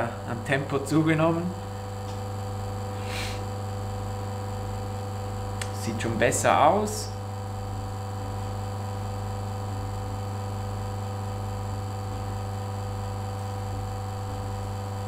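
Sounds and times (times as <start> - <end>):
espresso machine pump humming: 0.0 - 15.0.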